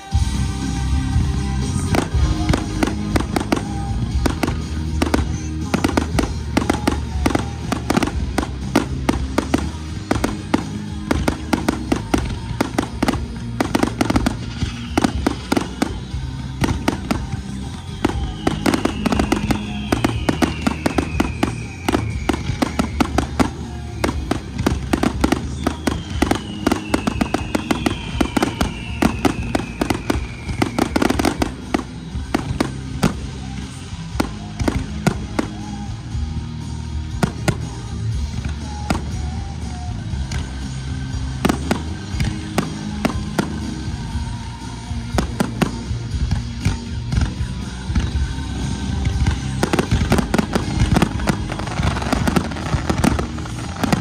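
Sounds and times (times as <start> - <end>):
fireworks bangs and crackling: 0.0 - 54.0
music soundtrack: 0.0 - 54.0
falling firework whistles: 1.8 - 54.0.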